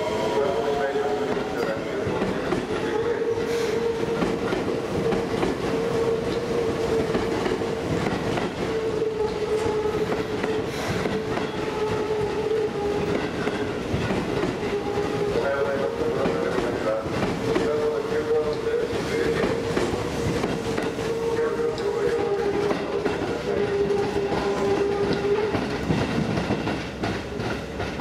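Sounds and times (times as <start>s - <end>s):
train wheels rolling on rails: 0.0s - 28.0s.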